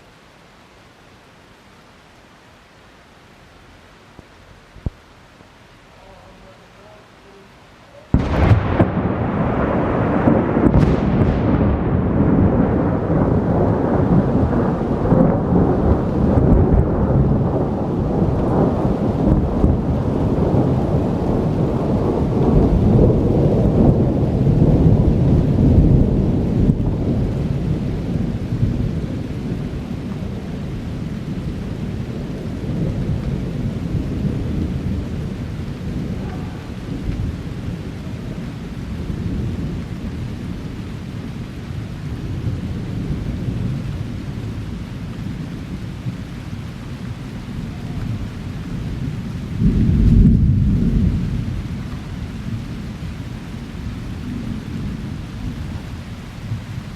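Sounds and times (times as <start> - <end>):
rolling thunder: 8.1 - 56.9.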